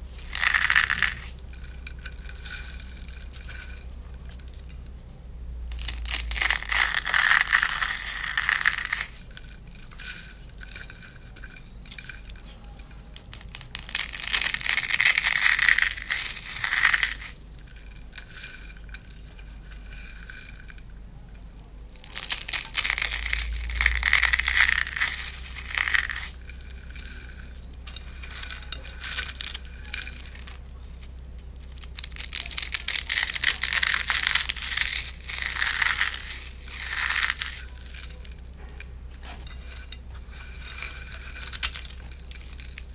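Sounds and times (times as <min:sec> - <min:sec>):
dry noodles crushed by hand: 0:00.0 - 0:05.0, 0:05.6 - 0:42.9.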